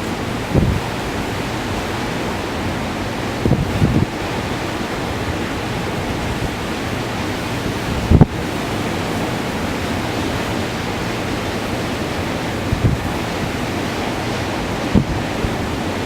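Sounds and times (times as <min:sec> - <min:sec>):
blizzard wind blowing: 0:00.0 - 0:16.0
wind buffeting microphone: 0:00.0 - 0:16.0.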